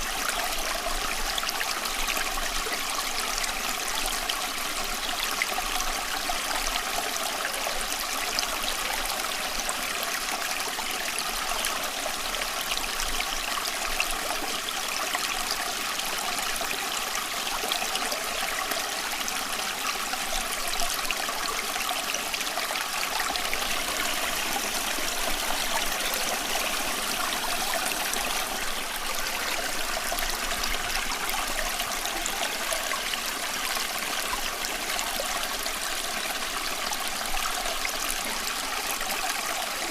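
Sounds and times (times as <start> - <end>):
water running over stones: 0.0 - 39.9.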